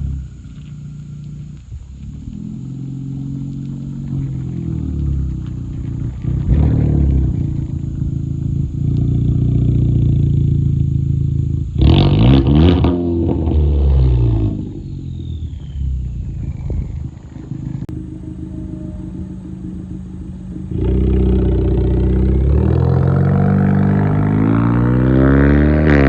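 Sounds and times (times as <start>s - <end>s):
car engine exhaust revving: 0.0s - 26.0s.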